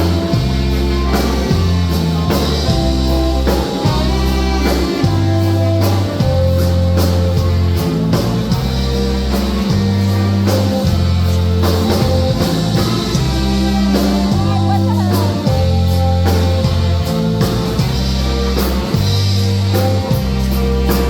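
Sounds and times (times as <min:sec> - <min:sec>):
live band playing a waltz: 0:00.0 - 0:21.0
long bass notes: 0:00.0 - 0:21.0.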